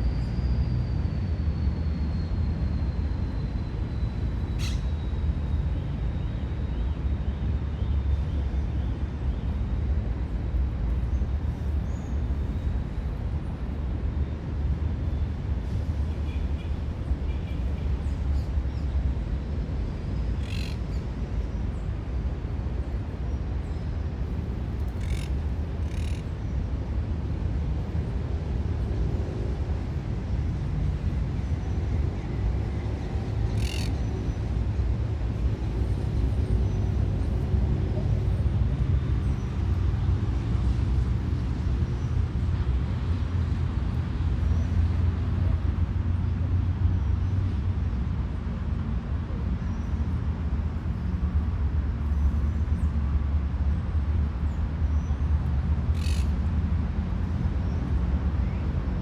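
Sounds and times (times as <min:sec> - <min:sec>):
distant road traffic rumble: 0:03.1 - 0:59.0.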